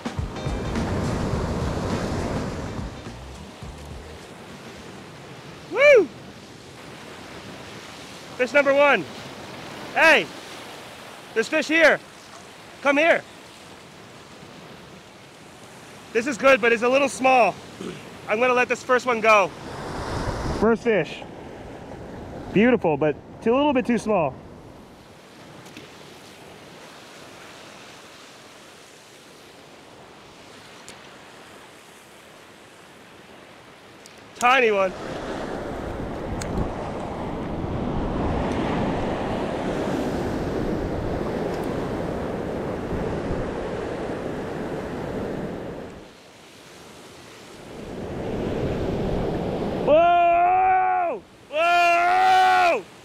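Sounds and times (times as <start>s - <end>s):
ocean surf on rocks: 0.0s - 53.0s.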